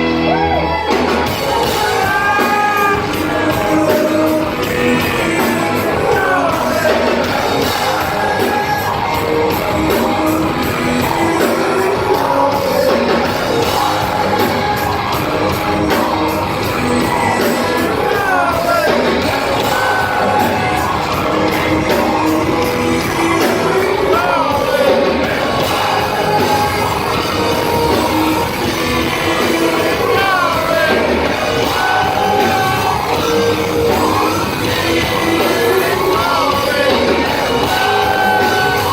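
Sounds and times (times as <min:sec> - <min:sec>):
live hard rock band playing: 0:00.0 - 0:38.9
singer's gliding vocals: 0:01.4 - 0:38.9.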